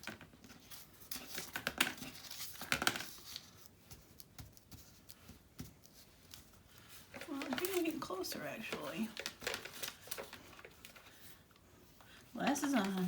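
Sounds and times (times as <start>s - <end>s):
paper rustling and crinkling: 0.0s - 11.4s.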